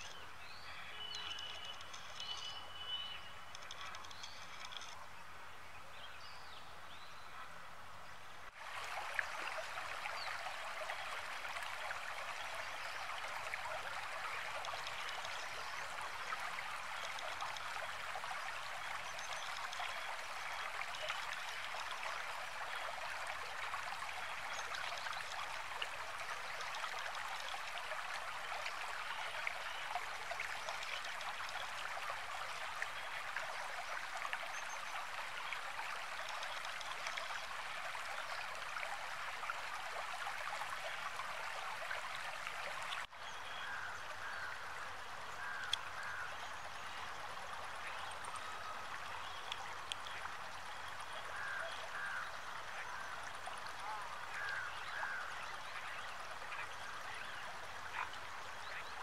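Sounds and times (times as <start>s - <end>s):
stream running over stones: 0.0s - 5.2s, 8.5s - 59.0s.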